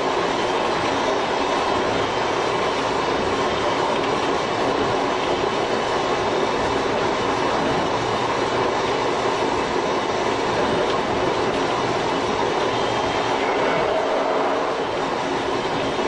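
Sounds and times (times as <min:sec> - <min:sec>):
electric train running on track: 0:00.0 - 0:16.0.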